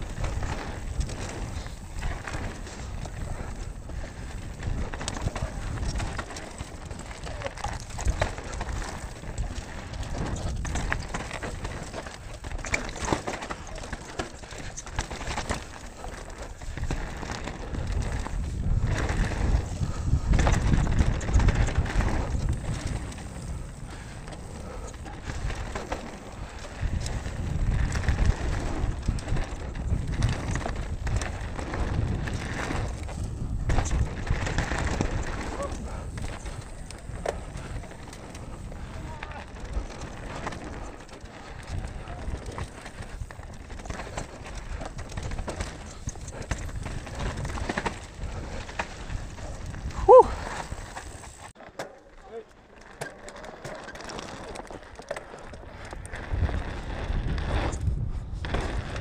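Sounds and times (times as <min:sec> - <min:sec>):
wind buffeting microphone: 0:00.0 - 0:51.6, 0:55.5 - 0:59.0
bike rattling over bumps: 0:00.0 - 0:59.0
bike tyres rolling on dirt: 0:00.0 - 0:59.0.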